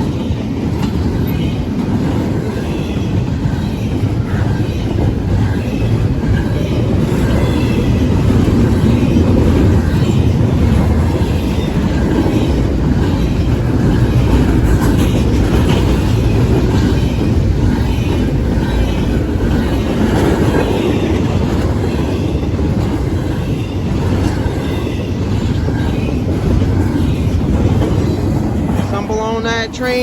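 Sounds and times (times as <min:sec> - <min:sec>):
steel wheels rumbling on rail: 0:00.0 - 0:30.0.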